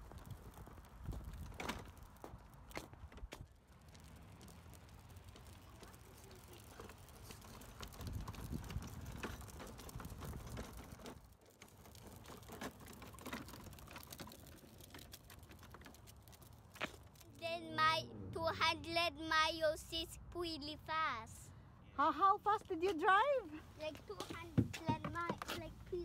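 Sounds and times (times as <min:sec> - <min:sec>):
go-kart wheels rumbling on concrete: 0:00.0 - 0:21.4, 0:22.1 - 0:26.0.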